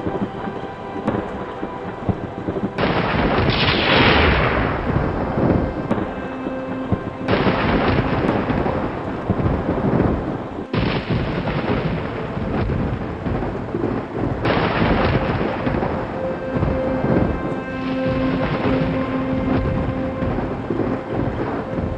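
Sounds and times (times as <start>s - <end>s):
heavy rain: 0.0s - 21.9s
thunder rumbling: 0.0s - 21.9s.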